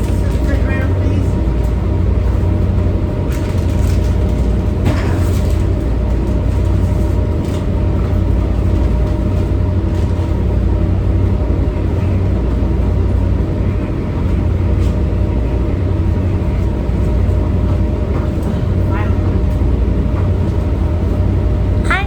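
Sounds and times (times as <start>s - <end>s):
boat diesel engine drone: 0.0s - 22.0s
steady hum: 0.0s - 22.0s.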